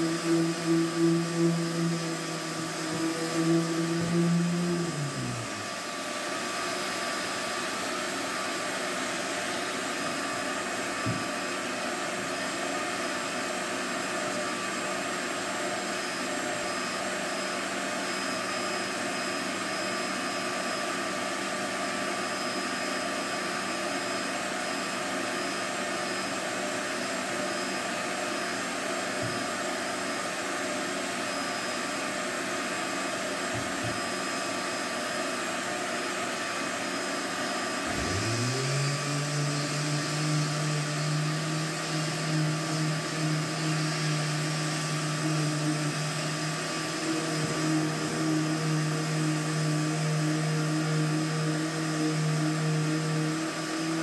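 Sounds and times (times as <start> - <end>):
electric sander motor hum: 0.0 - 20.8, 30.5 - 54.0
shop vacuum running: 0.0 - 54.0.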